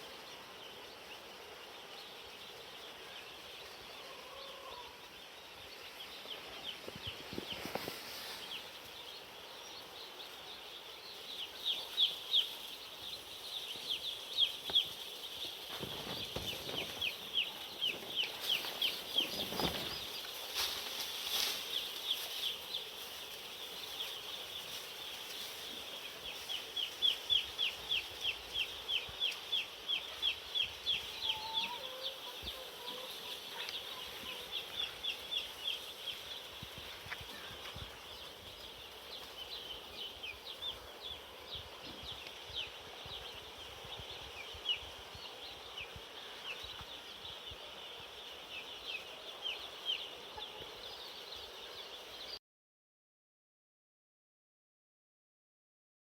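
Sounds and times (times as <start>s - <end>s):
chicks peeping: 0.0s - 52.4s.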